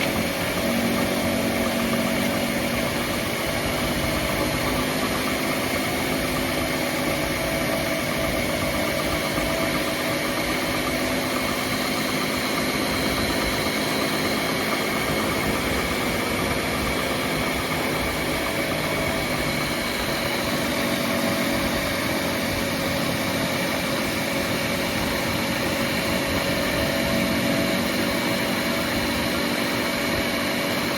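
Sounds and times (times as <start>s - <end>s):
road noise: 0.0s - 30.9s
wheel bearing humming: 0.0s - 30.9s.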